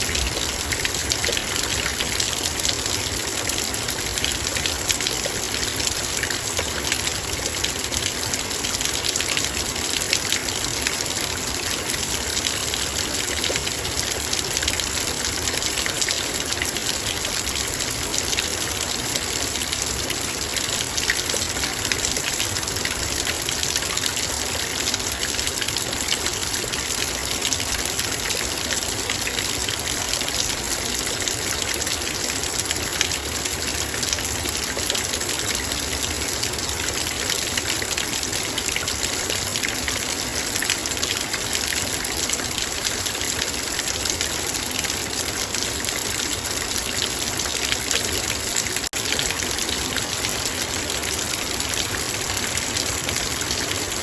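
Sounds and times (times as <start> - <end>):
heavy rain on a metal bowl: 0.0 - 54.0.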